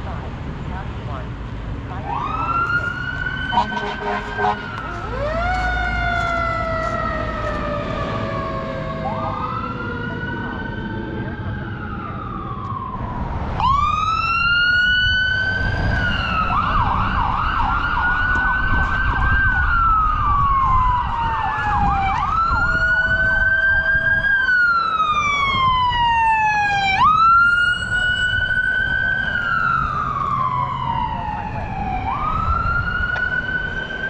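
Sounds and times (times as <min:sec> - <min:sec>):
low rumble of trucks: 0:00.0 - 0:34.0
wailing siren: 0:01.9 - 0:34.0
yelping siren: 0:02.0 - 0:34.0.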